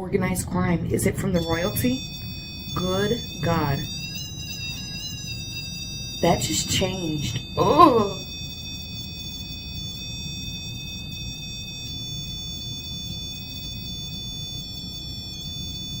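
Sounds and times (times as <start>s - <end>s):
low steady hum: 0.0s - 16.0s
high-pitched electronic tones: 1.2s - 16.0s.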